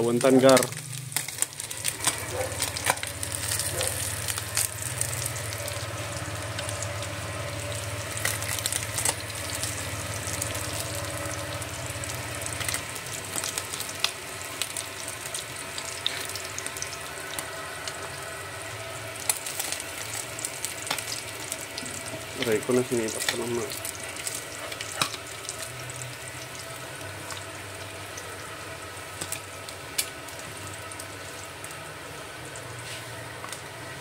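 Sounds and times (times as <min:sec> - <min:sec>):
fish sizzling in a pan: 0:00.0 - 0:34.0.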